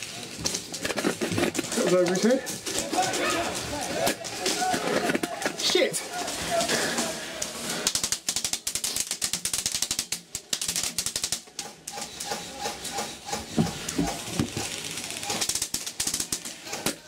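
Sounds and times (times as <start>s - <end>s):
pellets pattering on wooden walls: 0.0s - 11.9s, 13.5s - 17.0s.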